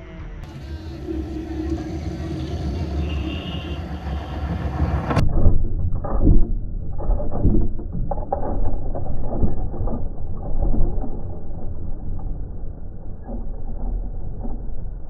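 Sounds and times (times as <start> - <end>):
toy train low rumble: 0.0 - 15.0
wheels clicking and knocking on track: 0.5 - 15.0.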